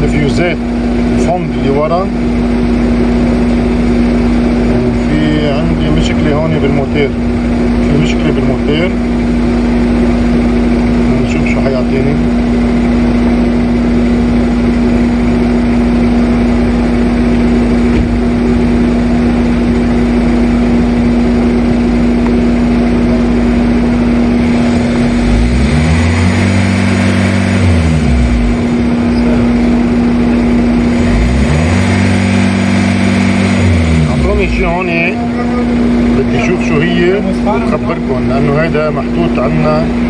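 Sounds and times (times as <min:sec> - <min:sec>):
radiator cooling fan running: 0:00.0 - 0:40.0.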